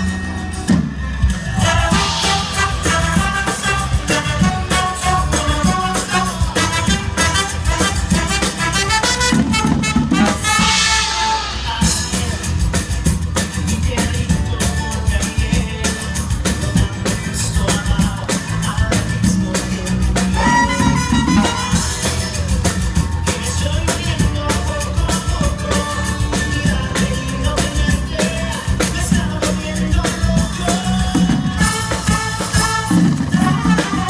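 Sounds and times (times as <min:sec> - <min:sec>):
fast driving drum beat: 0:00.0 - 0:34.0
live band music: 0:00.0 - 0:34.0
person singing: 0:01.3 - 0:09.1, 0:10.1 - 0:34.0.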